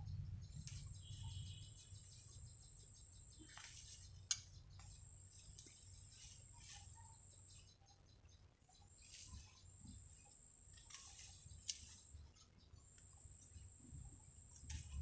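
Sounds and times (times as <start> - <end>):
faint insect trill: 0.0 - 8.0, 8.7 - 15.0.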